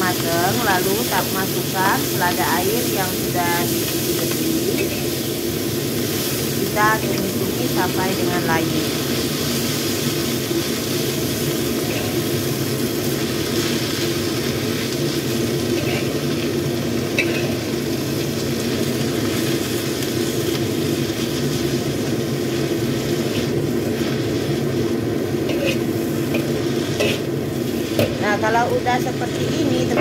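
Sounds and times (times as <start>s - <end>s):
greens sizzling in a wok: 0.0s - 30.0s.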